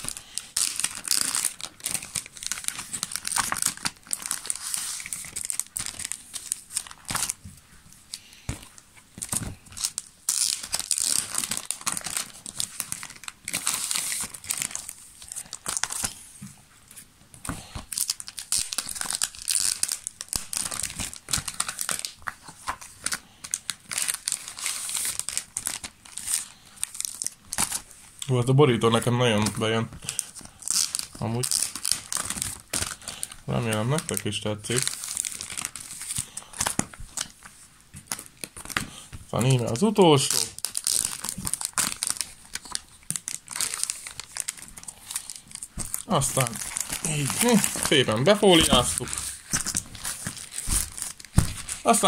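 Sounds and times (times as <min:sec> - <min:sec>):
plastic bags crinkling: 0:00.0 - 0:07.5, 0:08.1 - 0:16.2, 0:17.5 - 0:52.0.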